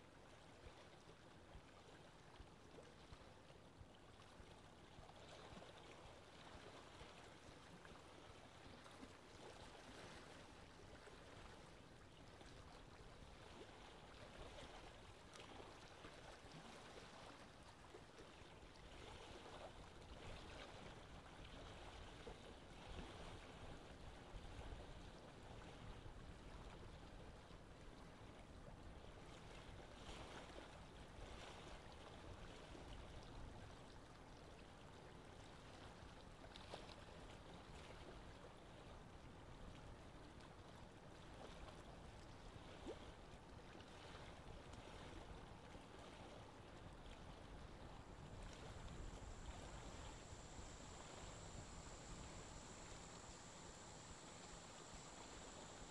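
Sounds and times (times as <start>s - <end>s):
faint trickling water: 0.0s - 55.9s.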